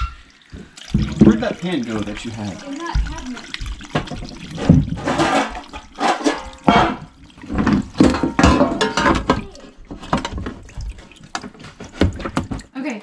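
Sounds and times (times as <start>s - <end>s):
water pouring and splashing: 0.0s - 12.7s.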